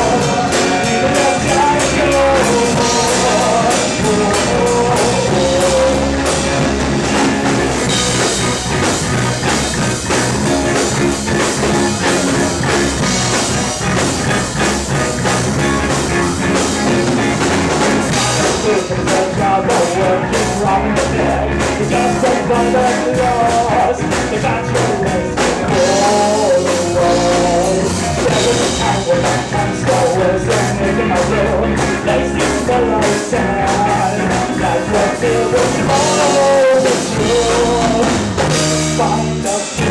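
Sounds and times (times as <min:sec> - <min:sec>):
melodic lead line: 0:00.0 - 0:39.9
rock band playing: 0:00.0 - 0:39.9.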